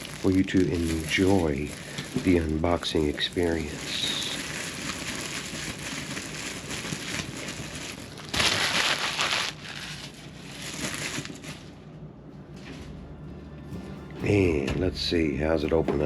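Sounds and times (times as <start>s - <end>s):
plastic shrink wrap crinkling: 0.0s - 13.1s.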